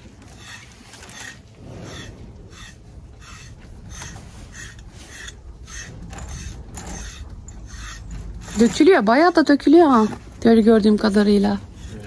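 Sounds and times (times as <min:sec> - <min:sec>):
brush rasping through cow's coat: 0:00.0 - 0:09.0, 0:11.2 - 0:12.0.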